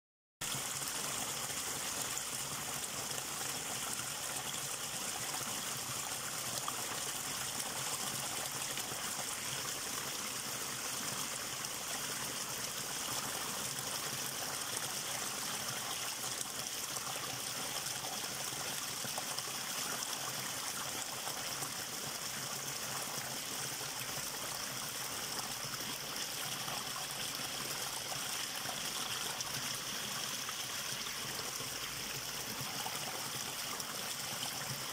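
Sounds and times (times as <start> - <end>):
stream splashing over boulders: 0.4 - 34.9.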